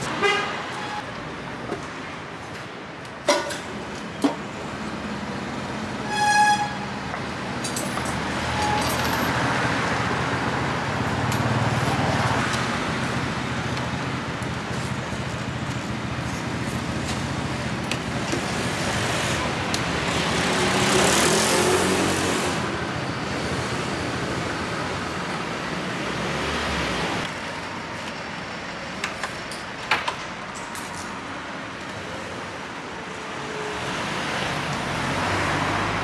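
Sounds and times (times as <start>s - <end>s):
vehicle rumble: 0.0s - 36.0s.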